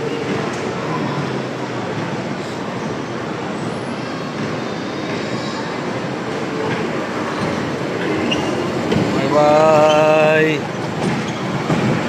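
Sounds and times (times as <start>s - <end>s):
miniature train rolling on rails: 0.0s - 12.0s.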